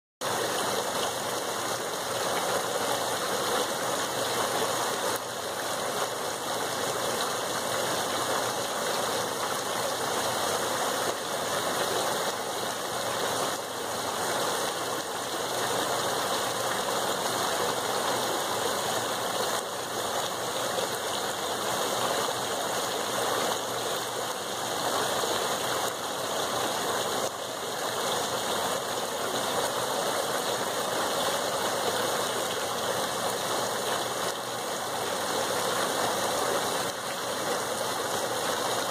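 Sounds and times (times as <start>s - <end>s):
fountain water splashing: 0.2s - 38.9s.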